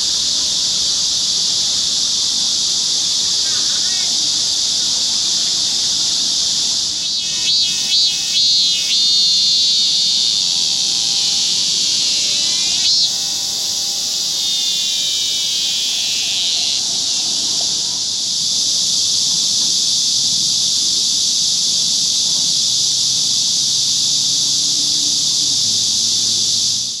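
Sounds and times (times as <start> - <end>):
cicada calls sweeping in pitch: 0.0 - 27.0
cicadas buzzing: 0.0 - 27.0.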